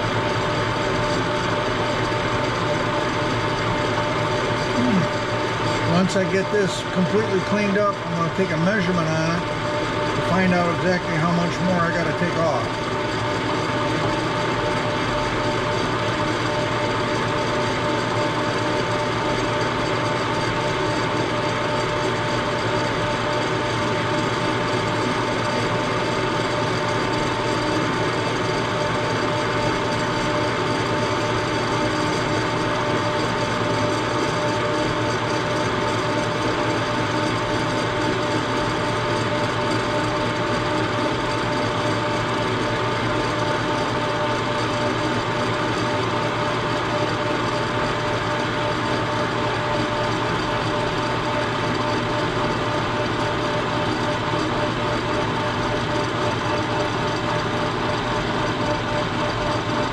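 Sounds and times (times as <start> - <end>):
milling machine whining: 0.0 - 59.9.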